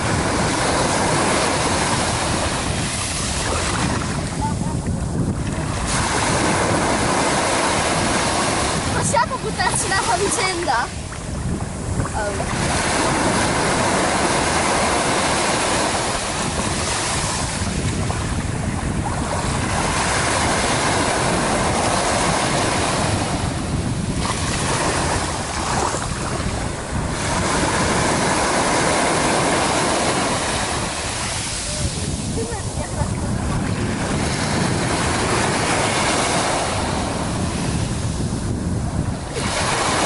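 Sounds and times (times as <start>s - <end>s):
rushing wind: 0.0s - 40.0s
sea water rushing: 0.0s - 40.0s
wind buffeting microphone: 0.0s - 40.0s.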